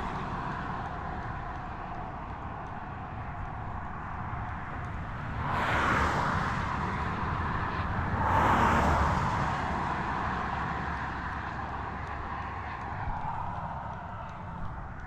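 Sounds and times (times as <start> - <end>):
vehicles passing on road: 0.0 - 15.0
wind rumble on microphone: 0.0 - 15.0.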